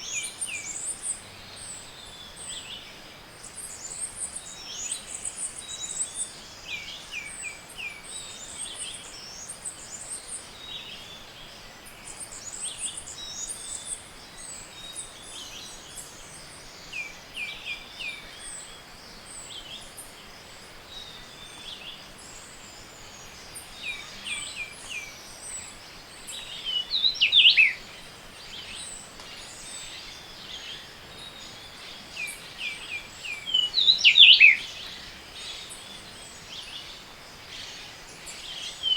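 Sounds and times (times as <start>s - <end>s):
background hiss: 0.0s - 38.9s
chorus of forest birds: 0.0s - 38.9s.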